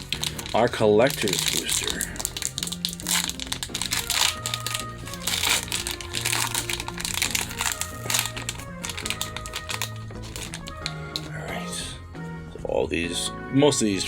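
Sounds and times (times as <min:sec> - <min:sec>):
foil wrapper crinkling: 0:00.0 - 0:11.4
background music with bass notes: 0:00.0 - 0:14.0.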